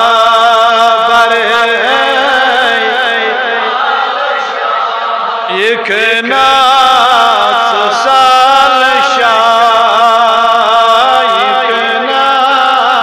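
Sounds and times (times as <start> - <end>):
man chanting melodically: 0.0 - 3.8, 5.4 - 13.0.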